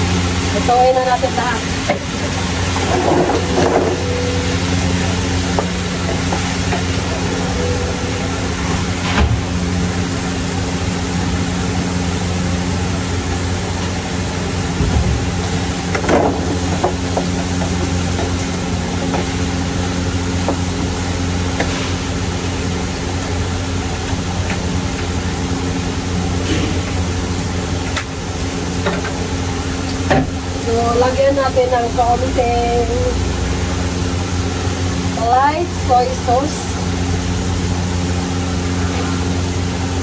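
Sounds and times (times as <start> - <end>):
low steady hum: 0.0 - 40.0
vegetables sizzling in a wok: 0.0 - 40.0.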